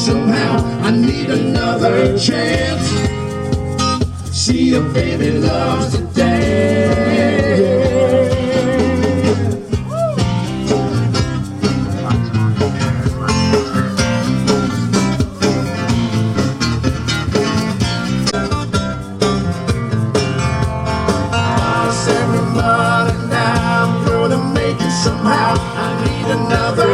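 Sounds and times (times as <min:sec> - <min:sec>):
pop-country guitar music with beat: 0:00.0 - 0:26.9.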